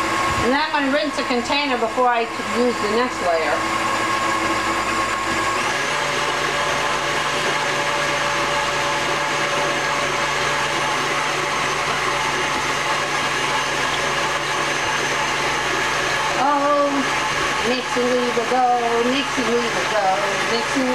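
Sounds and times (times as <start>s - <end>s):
stand mixer running: 0.0s - 20.9s.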